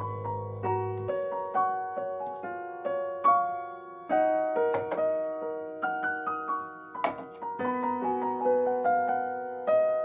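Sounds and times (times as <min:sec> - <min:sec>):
gentle piano tune: 0:00.0 - 0:10.0.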